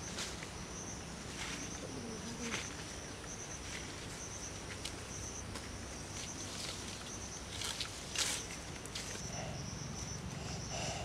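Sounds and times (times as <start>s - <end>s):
leaves and twigs rustling: 0.0s - 9.5s.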